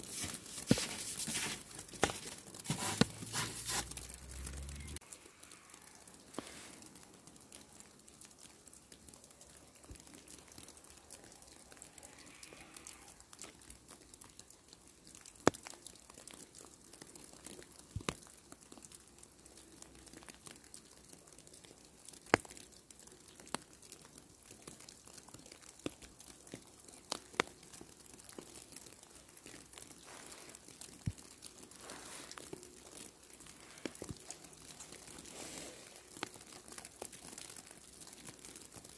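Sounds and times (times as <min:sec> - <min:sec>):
snow crackling patter: 0:00.0 - 0:38.9.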